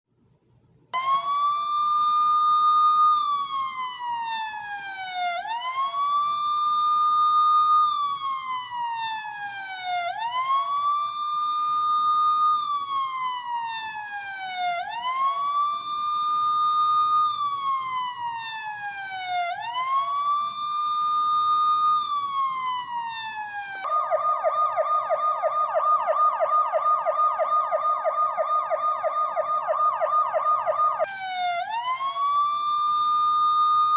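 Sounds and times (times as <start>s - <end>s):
fast siren yelp: 1.0s - 33.9s
toy police siren wailing: 1.0s - 33.9s.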